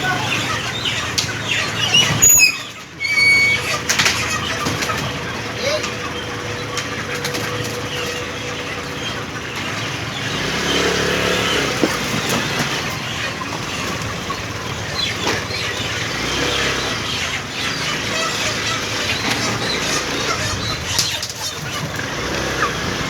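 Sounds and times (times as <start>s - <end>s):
chickens clucking: 0.0s - 23.0s
steady mechanical hum: 0.0s - 23.0s.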